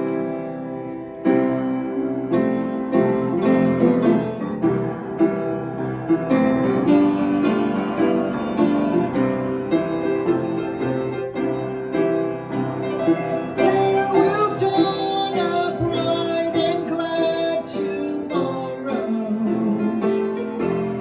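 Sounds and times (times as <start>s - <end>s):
piano playing hymn chords: 0.0s - 21.0s.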